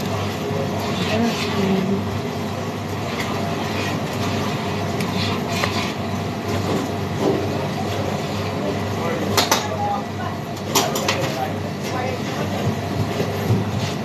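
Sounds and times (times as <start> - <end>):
extraction hood fan humming: 0.0 - 14.0.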